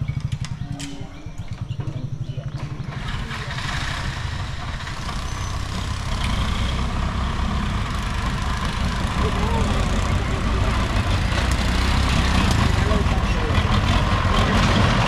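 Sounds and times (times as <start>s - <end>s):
traffic pulling away: 0.0s - 15.0s
vehicle engines idling: 0.0s - 15.0s.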